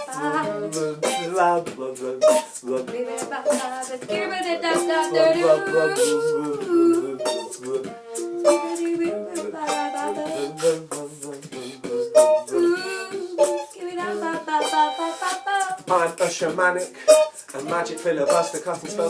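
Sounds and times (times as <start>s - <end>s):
beatboxed percussion: 0.0s - 19.0s
wordless vocal melody: 0.0s - 19.0s.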